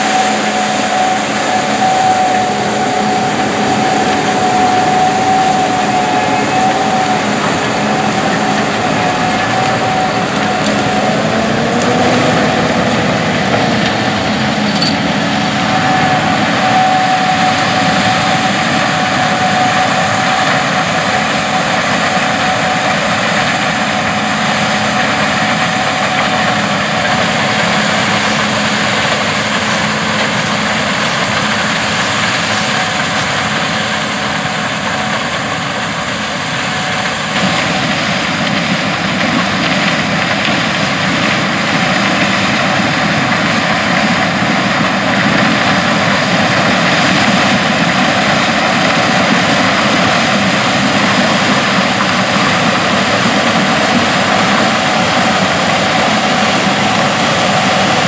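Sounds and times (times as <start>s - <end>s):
combine harvester drone: 0.0s - 58.0s
combine unloading grain: 0.0s - 58.0s.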